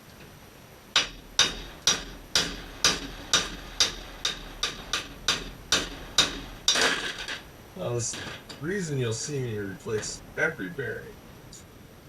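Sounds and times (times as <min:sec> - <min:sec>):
hammer blows on metal: 0:00.9 - 0:11.2.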